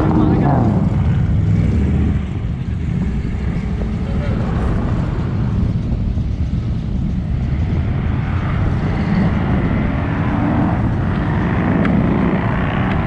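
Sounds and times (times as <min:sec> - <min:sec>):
vehicle exhaust rumble: 0:00.0 - 0:13.0.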